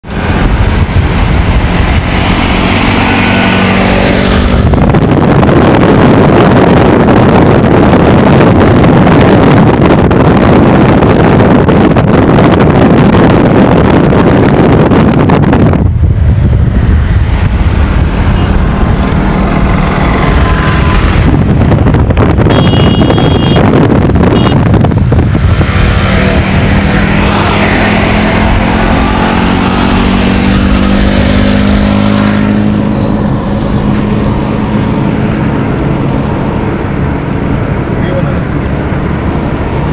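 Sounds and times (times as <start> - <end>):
motorcycle engines: 0.0 - 8.4, 15.3 - 39.9
wind and road noise: 0.0 - 39.9.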